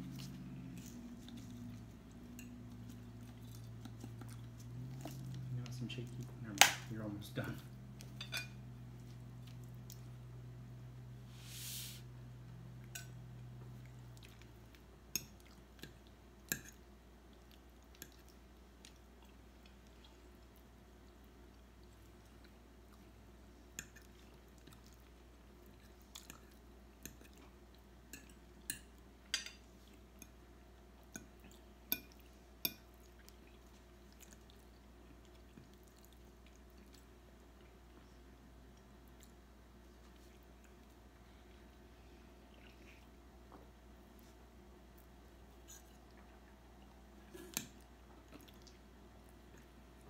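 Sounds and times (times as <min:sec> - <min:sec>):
chewing pasta: 0:00.0 - 0:06.4, 0:07.6 - 0:10.4, 0:12.7 - 0:50.0.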